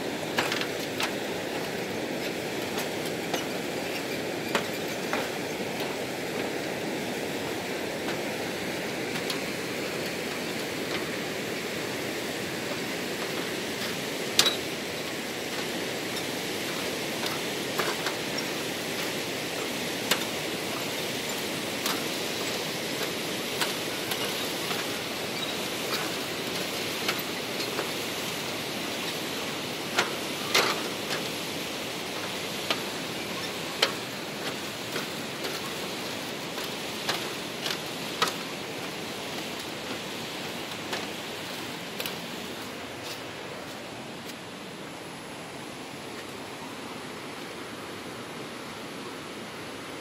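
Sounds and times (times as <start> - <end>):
steady rushing noise: 0.0 - 50.0
footsteps on slatted bridge deck: 0.2 - 44.6.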